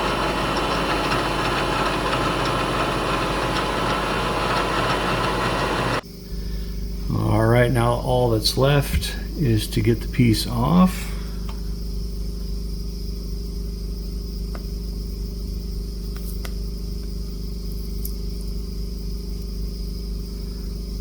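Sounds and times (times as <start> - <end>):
machine hum with high whine: 0.0 - 21.0.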